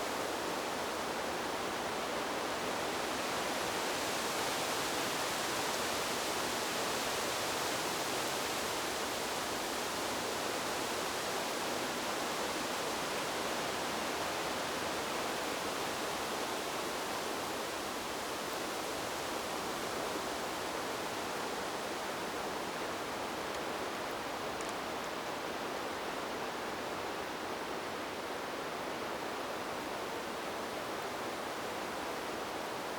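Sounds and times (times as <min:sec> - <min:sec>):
wind rustling tree leaves: 0:00.0 - 0:32.9.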